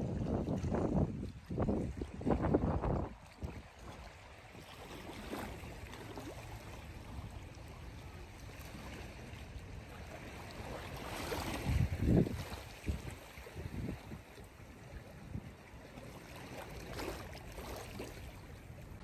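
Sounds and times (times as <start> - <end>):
wind rumbling on microphone: 0.0 - 16.3
waves lapping against rocks: 0.0 - 19.0.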